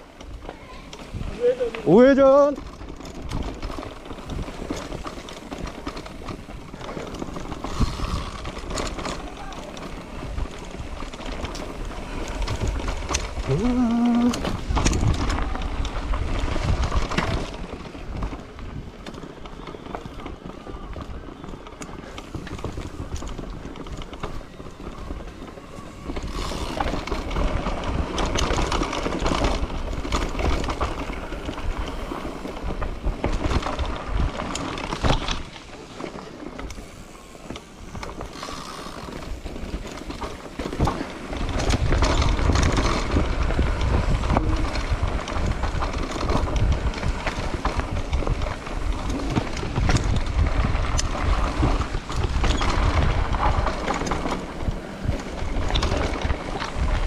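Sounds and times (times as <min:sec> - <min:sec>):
wind buffeting microphone: 0:00.0 - 0:35.8, 0:36.6 - 0:57.0
rolling noise: 0:00.0 - 0:57.0.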